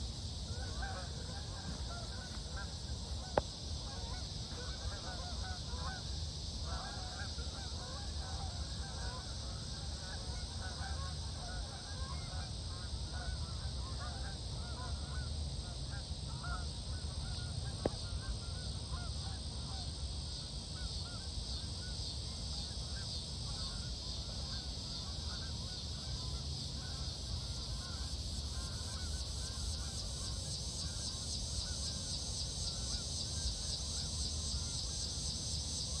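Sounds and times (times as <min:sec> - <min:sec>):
geese honking overhead: 0:00.0 - 0:36.0.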